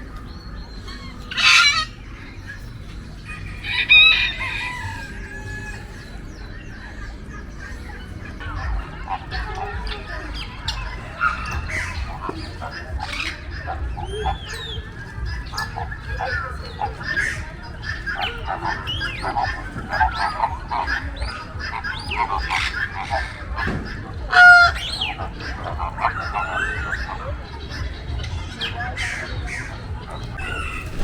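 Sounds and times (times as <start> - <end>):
chorus of bird calls: 0.0 - 31.0.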